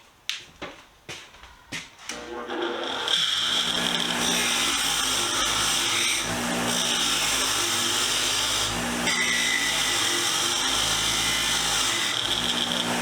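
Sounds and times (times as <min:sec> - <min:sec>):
wire wheel scrubbing steel: 0:02.1 - 0:13.0.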